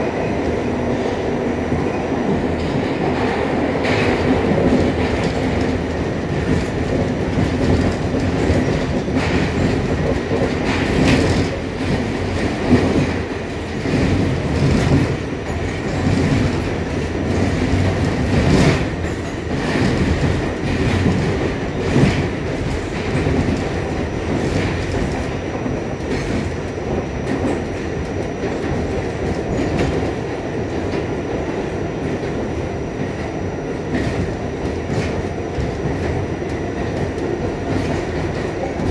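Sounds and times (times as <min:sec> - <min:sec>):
subway car rumbling on track: 0:00.0 - 0:38.9.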